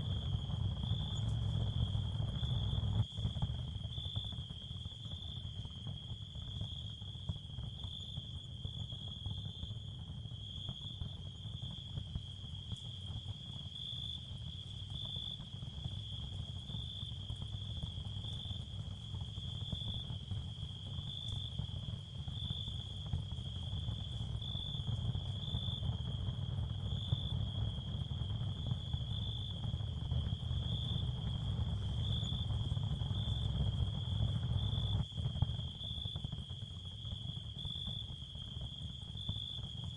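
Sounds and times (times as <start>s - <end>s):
crickets trilling: 0.1s - 39.9s.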